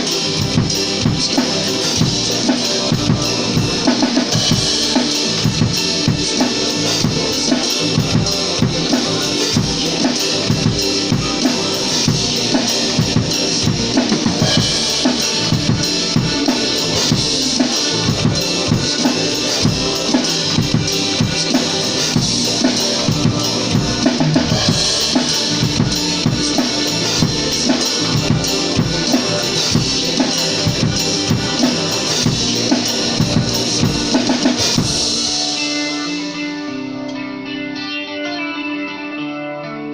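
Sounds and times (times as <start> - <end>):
drum kit steady beat: 0.0 - 37.0
rock music: 0.0 - 39.9.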